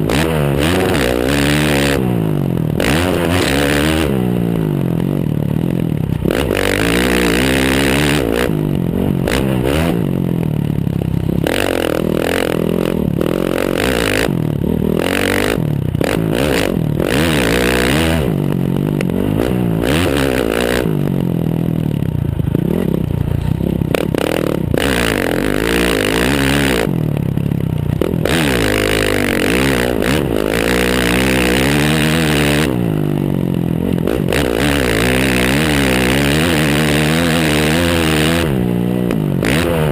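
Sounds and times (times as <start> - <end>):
motocross bike exhaust revving: 0.0 - 39.9.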